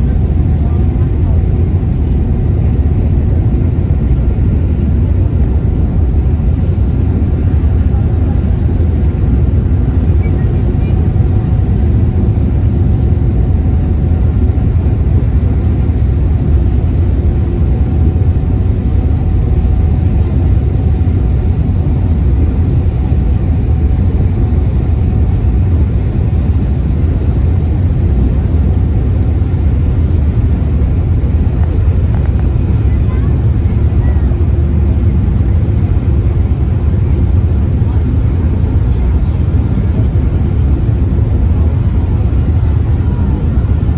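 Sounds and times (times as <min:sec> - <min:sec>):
ferry engine low rumble: 0:00.0 - 0:43.9.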